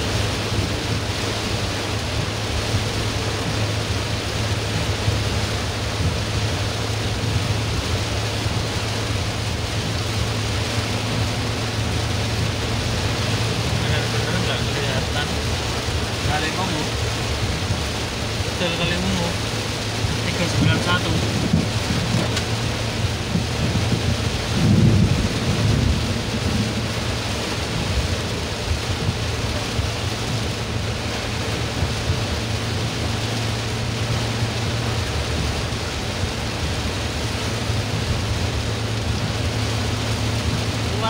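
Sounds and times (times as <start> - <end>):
engine and tyre drone: 0.0 - 41.0
heavy rain drumming on car roof: 0.0 - 41.0
thunder rumble: 0.0 - 41.0.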